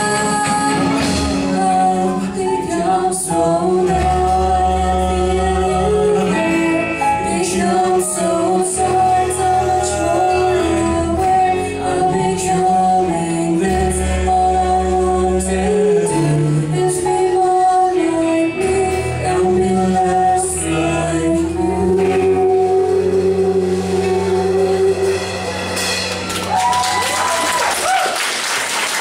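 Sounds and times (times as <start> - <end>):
woman singing lead: 0.0 - 26.0
live rock band playing: 0.0 - 27.6.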